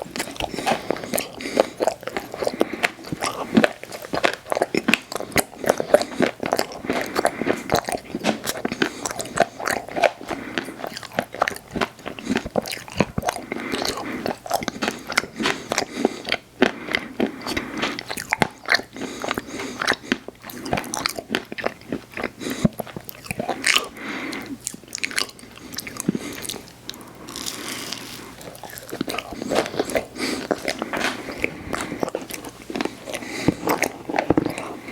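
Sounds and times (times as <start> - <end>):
crunching and chewing: 0.0 - 34.9.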